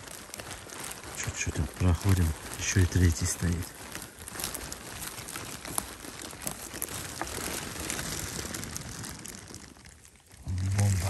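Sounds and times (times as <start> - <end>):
footsteps crunching on forest floor: 0.0 - 11.0.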